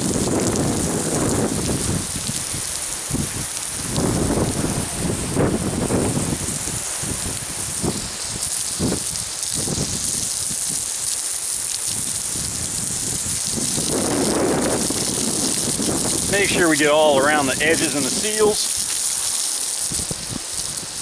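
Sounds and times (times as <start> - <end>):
hose water spraying on metal can: 0.0 - 21.0.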